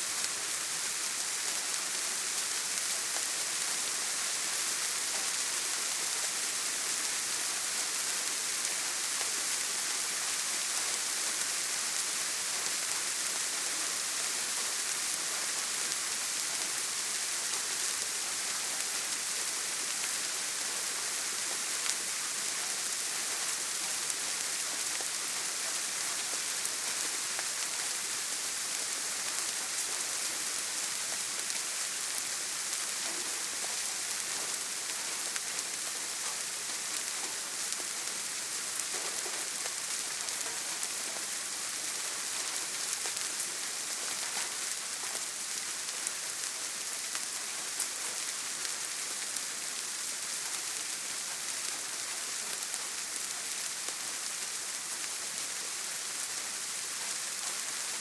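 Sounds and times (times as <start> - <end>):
rain drumming on a tin roof: 0.0 - 58.0.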